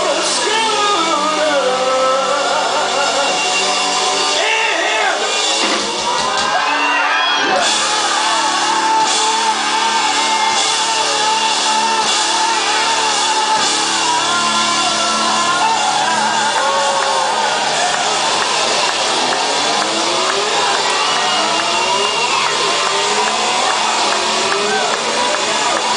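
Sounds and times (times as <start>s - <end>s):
rock band playing live: 0.0s - 25.9s
shouted singing: 0.0s - 25.9s.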